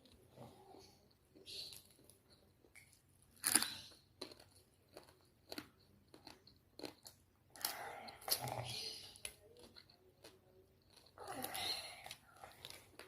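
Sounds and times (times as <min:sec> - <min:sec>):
close-up chewing of food: 0:00.0 - 0:13.0
food crunching: 0:00.0 - 0:13.0.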